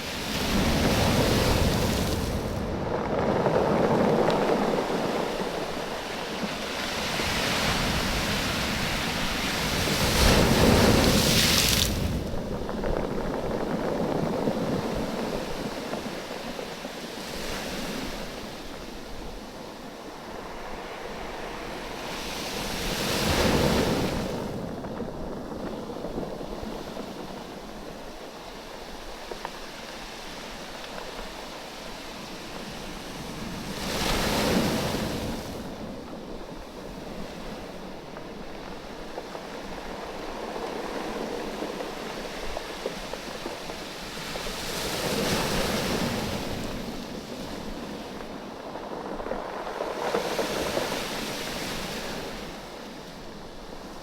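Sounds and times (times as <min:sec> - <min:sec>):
big waves breaking: 0:00.0 - 0:54.0
waves surging over stones: 0:00.0 - 0:54.0.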